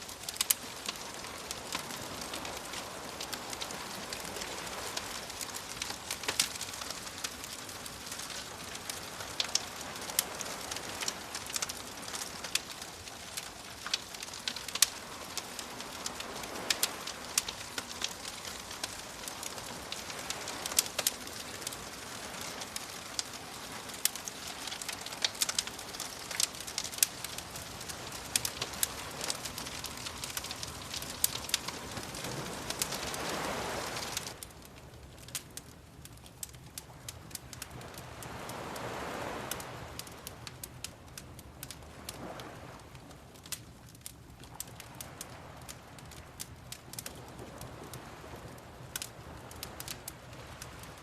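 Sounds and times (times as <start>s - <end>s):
sea waves: 0.0s - 51.0s
wood fire crackling: 0.0s - 51.0s.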